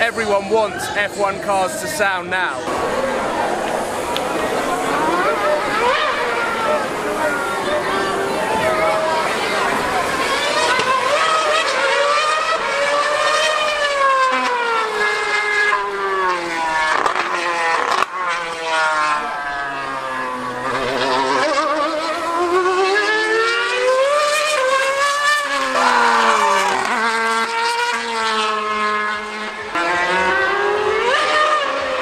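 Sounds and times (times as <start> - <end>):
racing car engine revving: 0.0 - 32.0.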